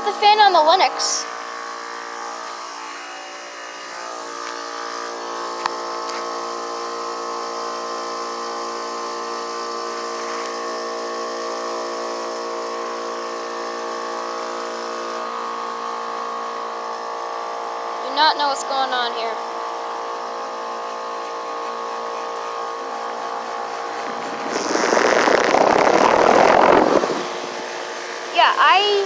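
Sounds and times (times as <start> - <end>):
air conditioner unit humming: 0.0 - 29.0.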